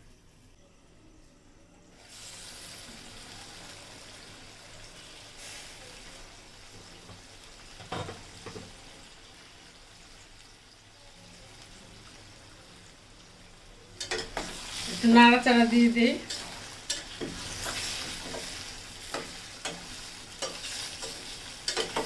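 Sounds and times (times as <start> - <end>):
masala sizzling in hot oil: 1.9 - 22.0.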